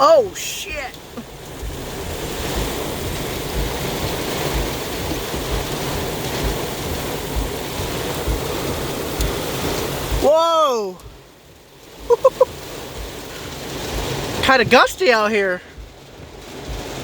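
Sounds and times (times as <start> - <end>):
wind buffeting car thumps: 0.0 - 10.3, 11.0 - 17.0
heavy rain pelting a car: 0.0 - 17.0.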